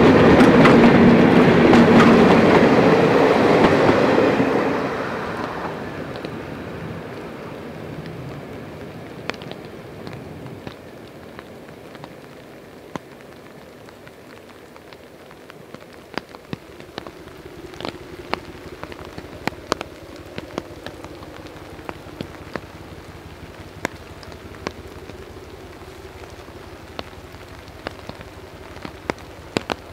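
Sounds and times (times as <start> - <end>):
rain drops ticking: 0.0 - 29.9.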